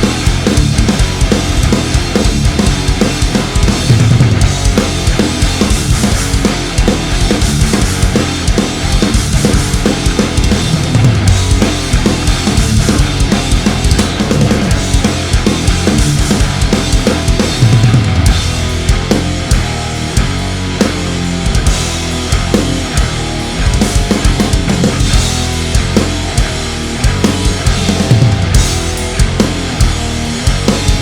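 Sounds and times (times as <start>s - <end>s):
drum kit heavy rock groove: 0.0s - 31.0s
heavy rock music: 0.0s - 31.0s.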